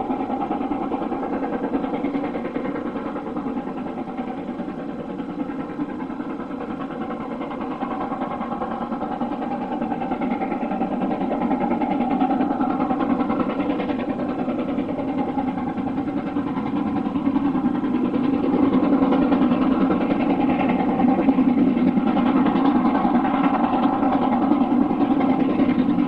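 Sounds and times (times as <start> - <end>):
steam locomotive exhaust beats: 0.0 - 26.0.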